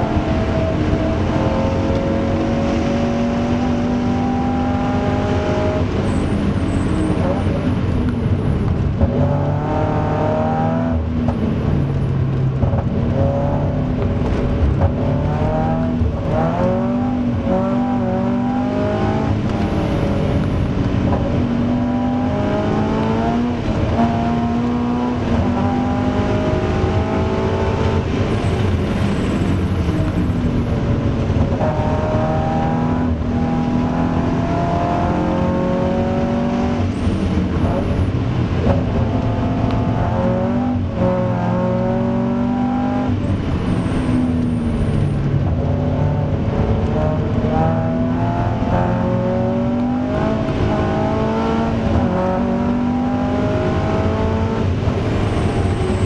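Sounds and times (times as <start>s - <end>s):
car engine revving hard: 0.0s - 7.7s, 8.9s - 11.8s, 12.6s - 56.0s.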